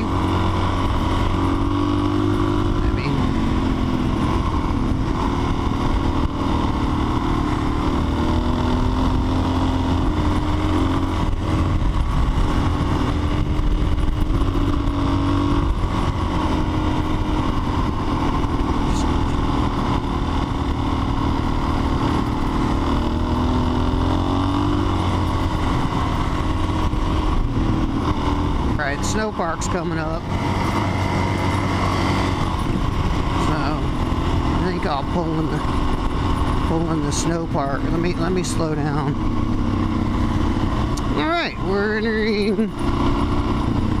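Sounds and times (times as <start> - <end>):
motorcycle engine running: 0.0 - 44.0
wind and road noise: 0.0 - 44.0.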